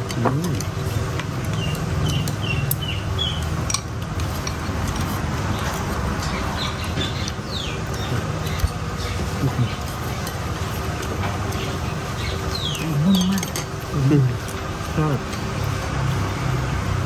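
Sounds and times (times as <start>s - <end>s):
steady low hum: 0.0s - 17.0s
birds chirping: 0.2s - 3.9s, 5.3s - 17.0s.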